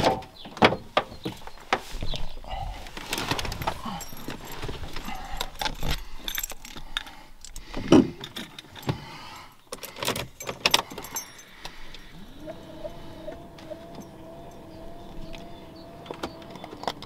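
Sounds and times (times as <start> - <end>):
light jingling: 1.4 - 17.0.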